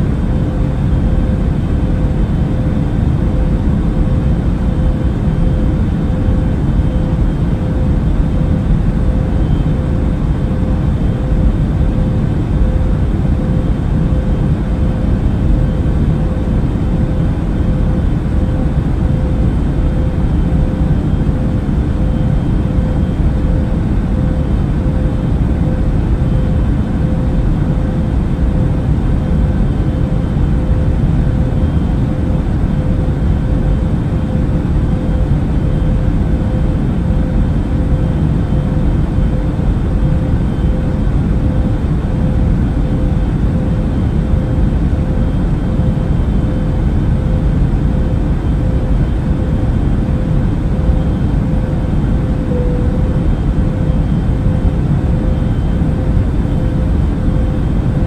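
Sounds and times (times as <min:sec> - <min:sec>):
airplane engine rumble: 0:00.0 - 0:58.0
mid-pitched hum: 0:00.0 - 0:58.0.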